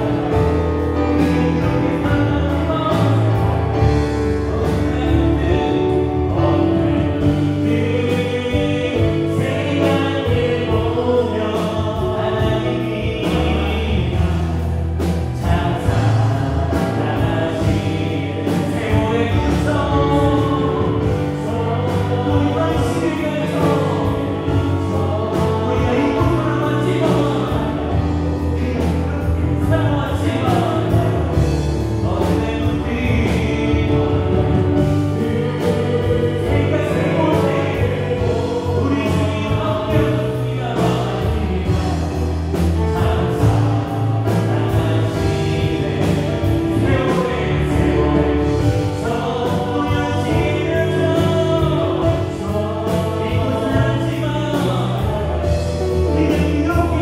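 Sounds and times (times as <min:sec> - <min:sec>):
bass guitar: 0:00.0 - 0:57.0
drum kit: 0:00.0 - 0:57.0
keyboards: 0:00.0 - 0:57.0.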